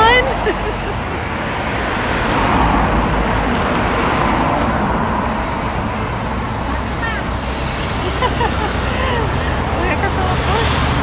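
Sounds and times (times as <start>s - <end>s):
low traffic rumble: 0.0s - 11.0s
vehicle passing: 0.0s - 11.0s.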